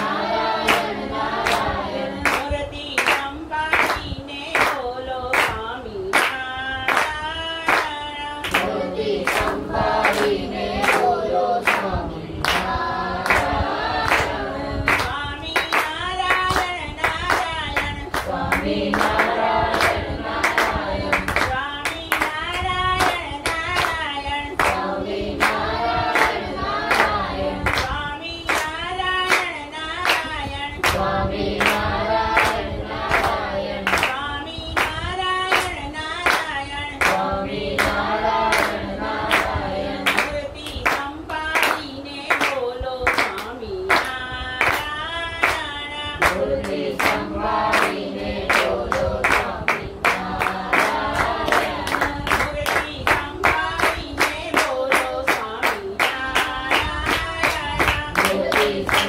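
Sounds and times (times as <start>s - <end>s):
group singing a devotional prayer: 0.0s - 59.0s
hands clapping in time: 0.6s - 24.0s, 26.2s - 31.0s, 34.8s - 59.0s.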